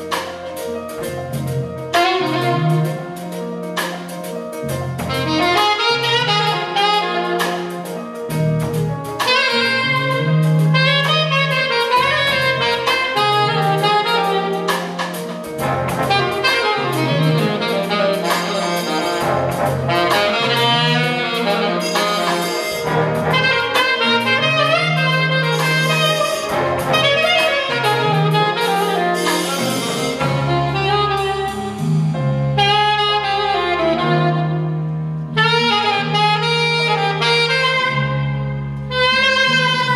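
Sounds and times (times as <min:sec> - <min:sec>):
alto saxophone lead: 0:00.0 - 0:04.1, 0:04.7 - 0:39.9
drum kit with cymbal strokes: 0:00.0 - 0:34.6
bass line: 0:00.0 - 0:39.9
brass and saxophone sections: 0:00.0 - 0:39.9
piano: 0:00.0 - 0:39.9.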